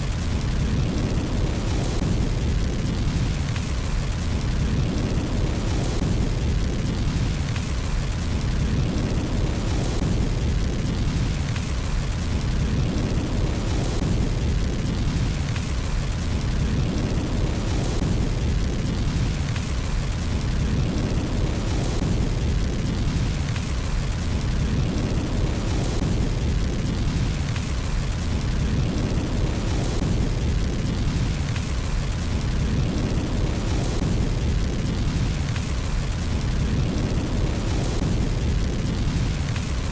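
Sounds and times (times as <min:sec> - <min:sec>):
fire crackling in a fireplace: 0:00.0 - 0:39.9.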